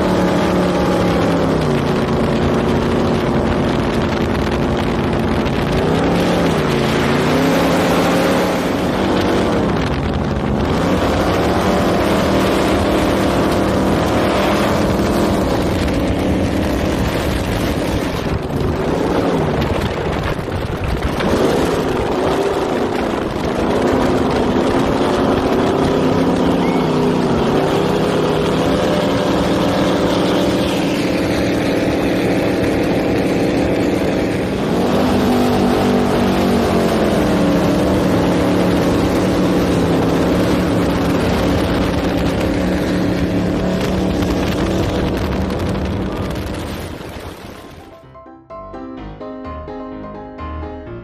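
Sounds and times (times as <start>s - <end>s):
powerboat engines at speed: 0.0s - 48.0s
rushing wind: 0.0s - 48.0s
water rushing against hull: 0.0s - 48.0s.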